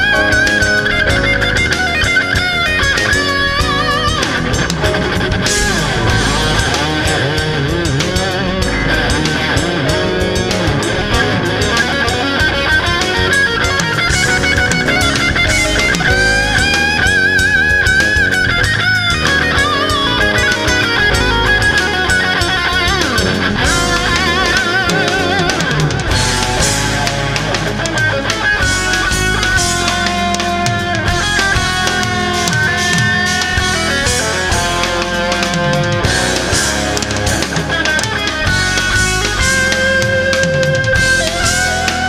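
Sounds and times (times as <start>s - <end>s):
electric guitar lead with vibrato: 0.0s - 42.0s
rock jazz fusion band: 0.0s - 42.0s.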